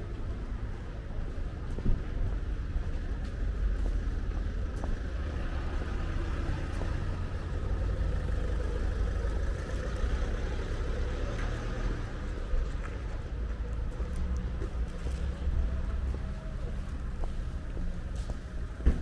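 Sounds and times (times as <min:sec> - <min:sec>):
car traffic rumble: 0:00.0 - 0:19.0.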